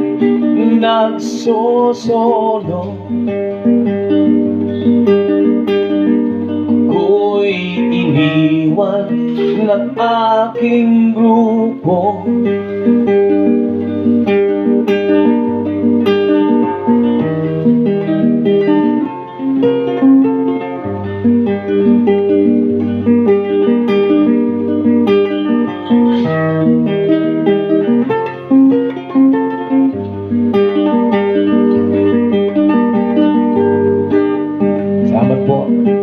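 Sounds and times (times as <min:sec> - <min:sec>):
picked guitar melody: 0:00.0 - 0:36.0.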